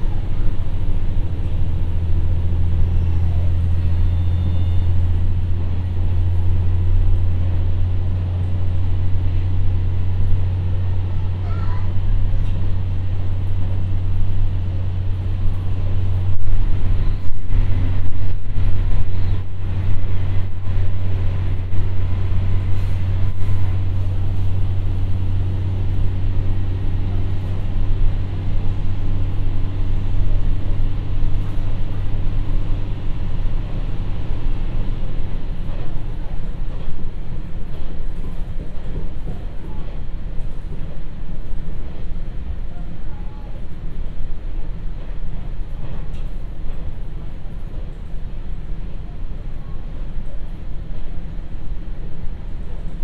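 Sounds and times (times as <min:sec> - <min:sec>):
diesel railcar engine drone: 0:00.0 - 0:53.0
wheels rumbling on track: 0:00.0 - 0:53.0.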